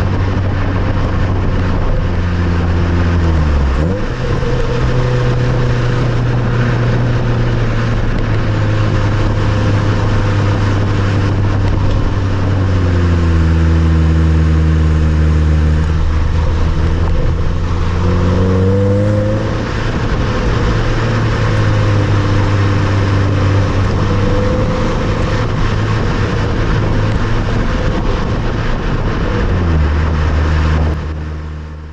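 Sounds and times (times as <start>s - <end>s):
car engine while driving: 0.0s - 31.9s
tyre and road noise: 0.0s - 31.9s.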